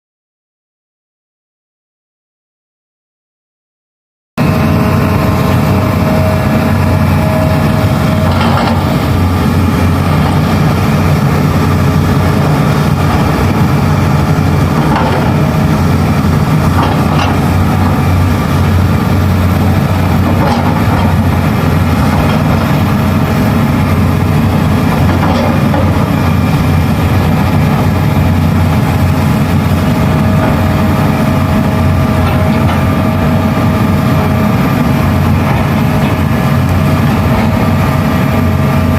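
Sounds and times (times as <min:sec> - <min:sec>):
excavator diesel engine running: 0:04.4 - 0:38.9.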